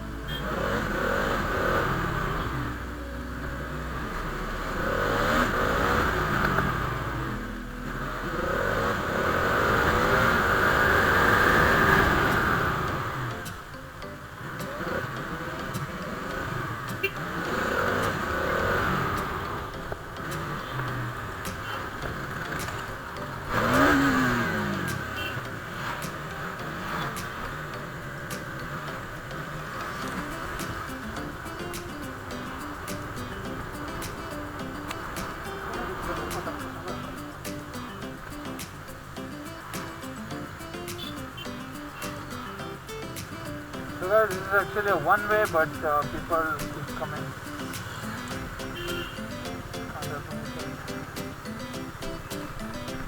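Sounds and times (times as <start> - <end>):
motorcycle engine revving: 0.0 - 2.8, 3.4 - 53.0
road traffic: 0.0 - 53.0.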